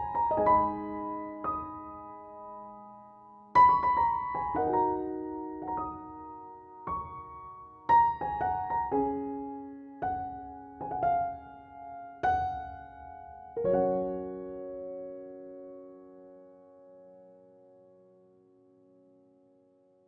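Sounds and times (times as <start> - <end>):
slow solo piano: 0.0 - 20.0.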